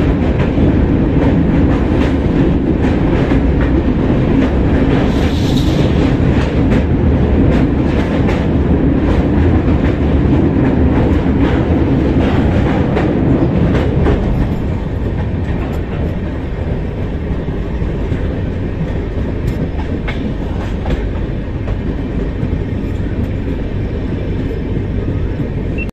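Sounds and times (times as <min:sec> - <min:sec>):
clickety-clack of rail joints: 0:00.0 - 0:25.9
rushing air: 0:00.0 - 0:25.9
train wheels rumbling on rail: 0:00.0 - 0:25.9.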